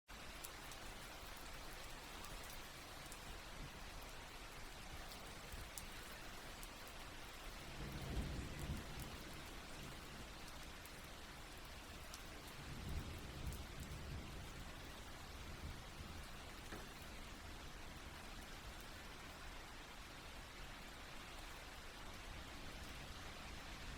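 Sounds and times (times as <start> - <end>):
raindrops ticking: 0.1 - 23.7
soft rain falling: 0.1 - 23.9.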